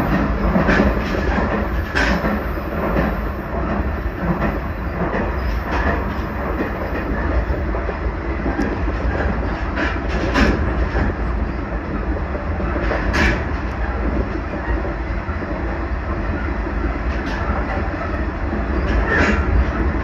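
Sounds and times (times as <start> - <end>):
track clacks: 0.0 - 20.0
train wheels rumbling on rails: 0.0 - 20.0.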